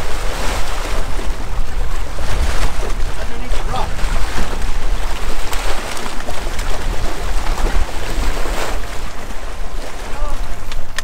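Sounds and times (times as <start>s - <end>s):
waves lapping against rocks: 0.0s - 11.0s
wind buffeting microphone: 0.0s - 11.0s.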